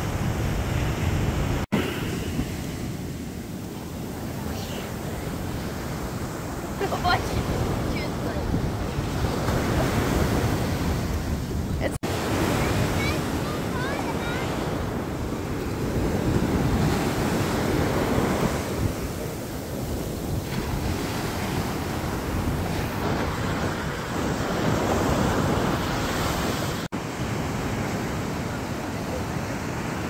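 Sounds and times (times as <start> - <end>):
ocean surf breaking: 0.0 - 30.0
wind on the microphone: 0.0 - 30.0.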